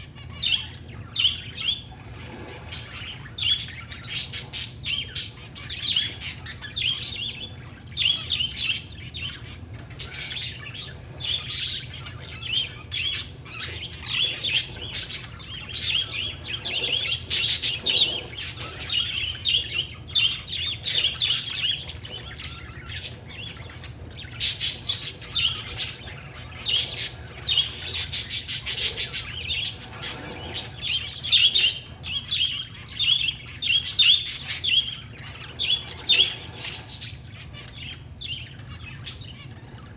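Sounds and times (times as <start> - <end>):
low steady hum: 0.0 - 39.9
small birds chirping: 0.0 - 39.9.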